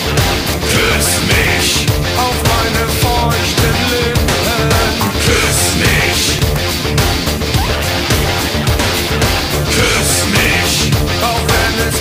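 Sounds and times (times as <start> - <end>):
driving drum beat: 0.0 - 12.0
heavy rock music: 0.0 - 12.0.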